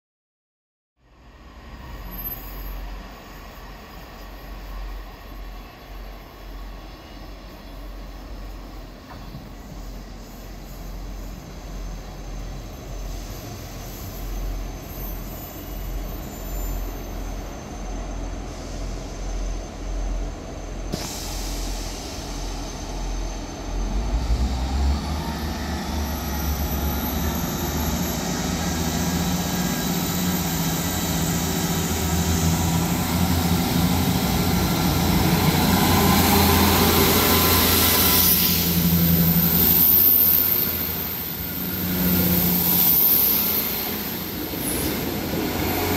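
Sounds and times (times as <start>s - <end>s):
diesel train engines: 1.0s - 45.9s.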